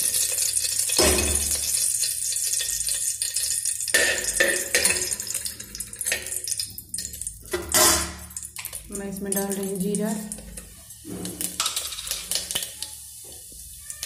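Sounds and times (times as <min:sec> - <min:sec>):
ghee sizzling in a pot: 0:00.0 - 0:14.0.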